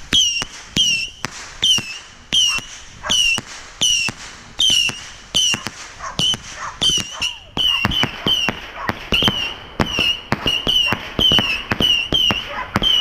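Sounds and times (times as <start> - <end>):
bottle rockets popping and whistling: 0.0 - 13.0.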